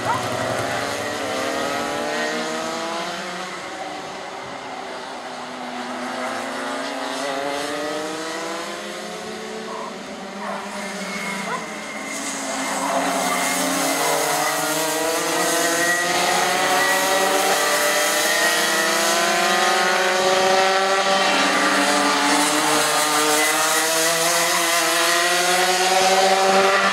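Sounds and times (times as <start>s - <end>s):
kart engines at high revs: 0.0s - 26.9s.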